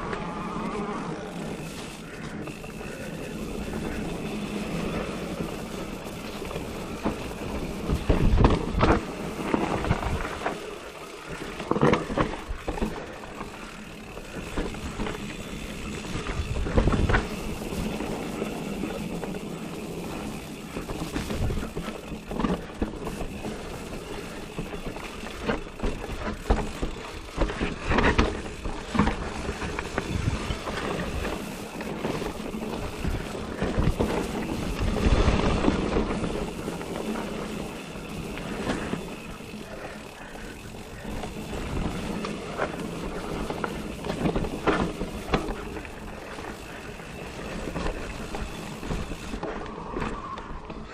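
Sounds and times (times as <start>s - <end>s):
bike knocking and rattling: 0.0s - 50.9s
tyres rolling on dirt: 0.0s - 50.9s.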